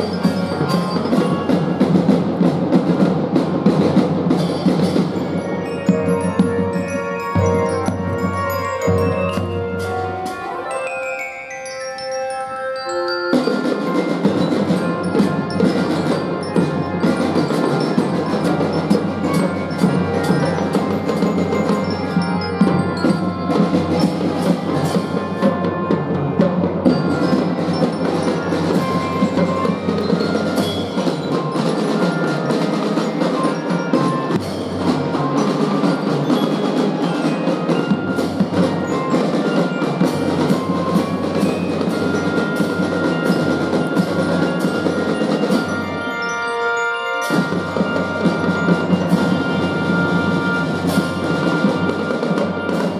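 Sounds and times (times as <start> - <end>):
snare and bass drum beats: 0.0 - 10.7, 13.3 - 46.2, 47.2 - 52.9
mallet melody: 0.0 - 52.9.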